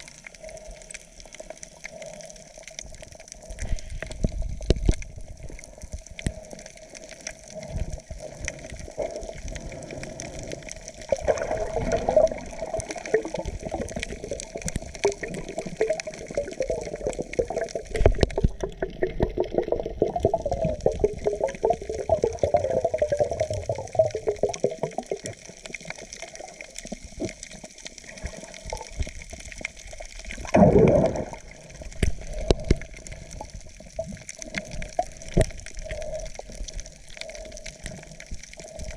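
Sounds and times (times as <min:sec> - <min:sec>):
muffled underwater water movement: 0:00.0 - 0:38.9
underwater clicks and crackles: 0:00.0 - 0:38.9
rush of water: 0:07.6 - 0:38.9.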